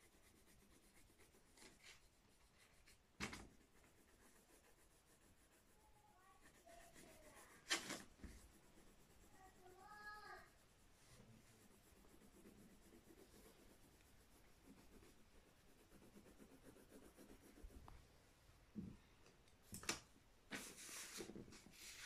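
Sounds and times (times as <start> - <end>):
pencil scratching on paper: 0.0 - 17.9.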